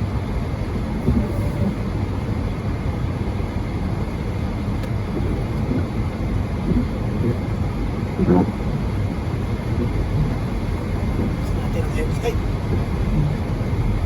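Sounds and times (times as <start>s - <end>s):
car engine and tyres rumbling: 0.0s - 14.0s
strong wind: 0.0s - 14.0s.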